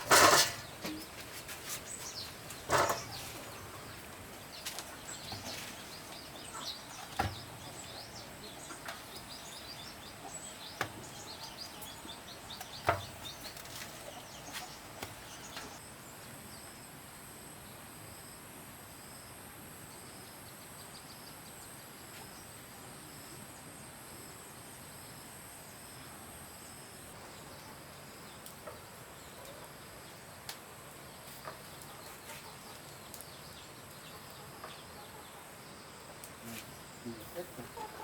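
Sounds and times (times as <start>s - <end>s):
insects droning: 0.0s - 16.2s, 23.0s - 38.0s.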